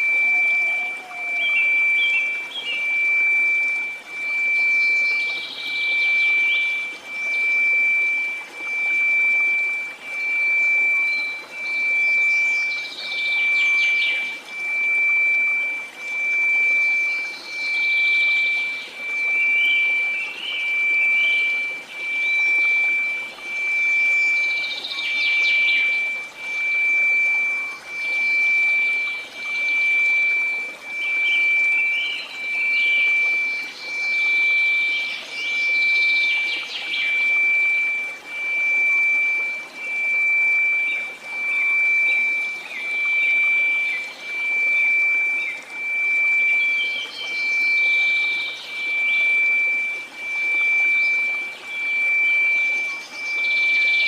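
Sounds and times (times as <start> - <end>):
faint chirping: 0.0 - 54.0
pure tone: 0.0 - 54.0
water trickling: 0.0 - 54.0.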